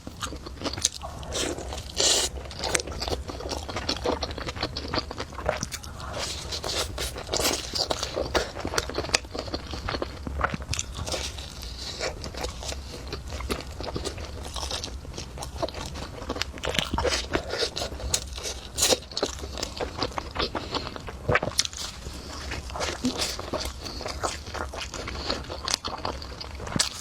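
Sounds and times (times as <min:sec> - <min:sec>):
person biting and chewing: 0:00.0 - 0:27.0
steady low hum: 0:00.0 - 0:27.0.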